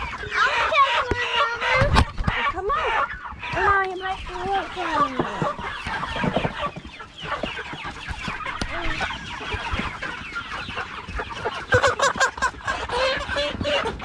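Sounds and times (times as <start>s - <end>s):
chickens calling loudly: 0.0s - 14.0s
chickens clucking: 0.0s - 14.0s.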